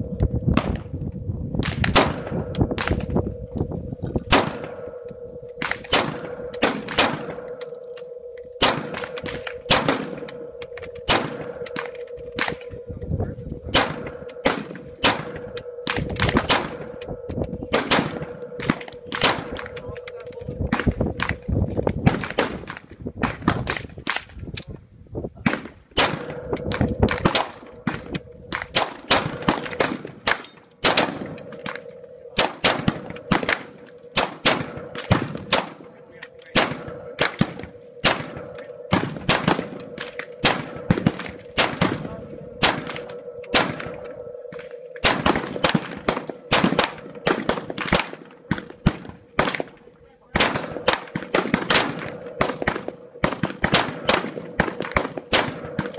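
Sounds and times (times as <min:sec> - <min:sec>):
faint steady hum: 0:00.0 - 0:22.8, 0:26.2 - 0:55.9
rifle shots: 0:01.6 - 0:03.3, 0:04.2 - 0:05.0, 0:05.6 - 0:12.8, 0:13.7 - 0:24.3, 0:25.5 - 0:55.9.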